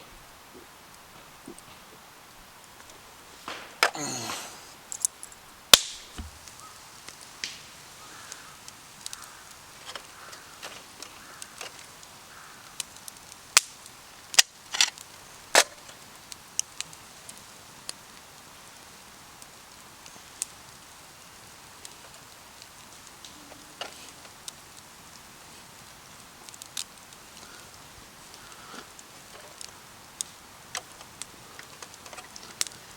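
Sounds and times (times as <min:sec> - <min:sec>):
campfire crackling: 0:00.2 - 0:32.9
loud fire cracks: 0:02.9 - 0:32.9.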